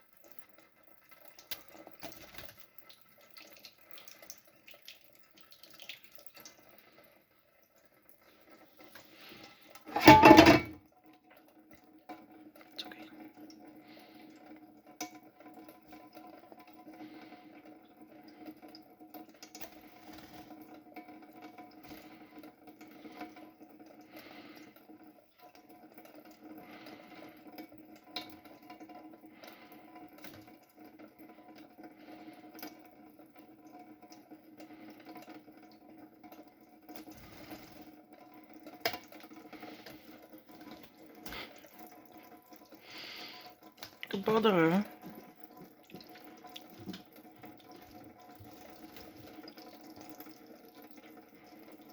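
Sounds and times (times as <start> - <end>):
tap water running: 0.0 - 51.9.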